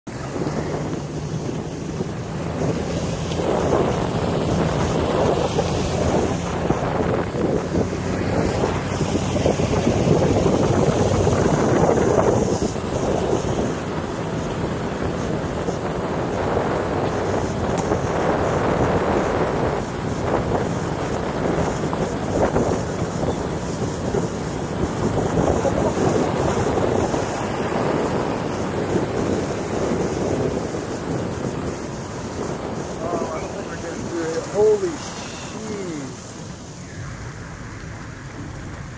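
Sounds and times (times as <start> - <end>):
wind buffeting microphone: 0.1 - 38.9.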